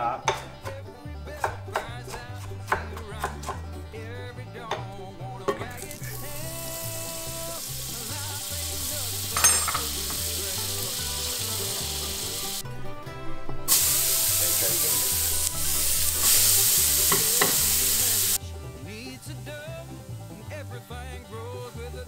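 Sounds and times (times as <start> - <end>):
light background music: 0.0 - 22.0
butter and onion sizzling: 0.3 - 22.0.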